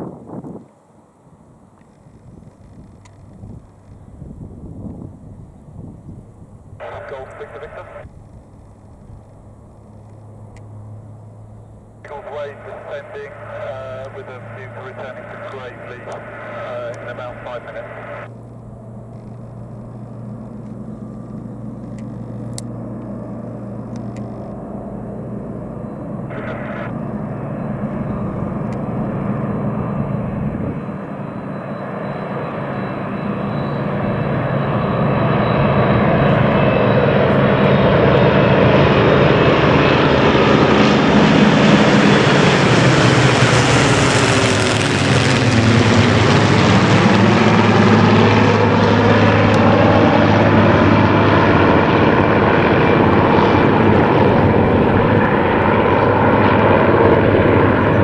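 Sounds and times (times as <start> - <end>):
propeller planes droning overhead: 0.0 - 58.0.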